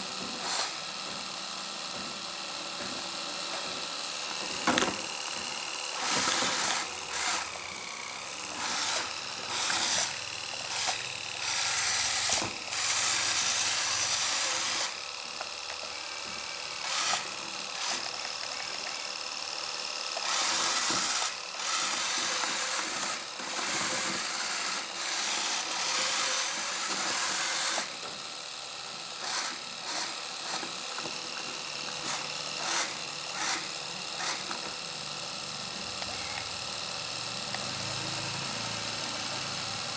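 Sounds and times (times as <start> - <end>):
small electric motors whining: 0.0 - 39.9.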